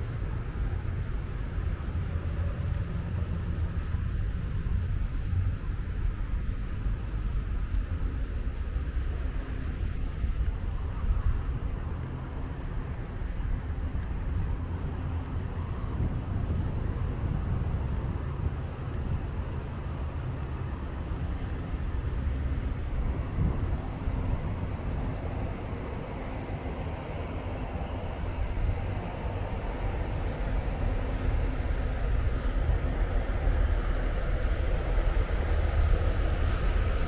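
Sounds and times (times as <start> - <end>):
passing cars rumbling: 6.9 - 37.0.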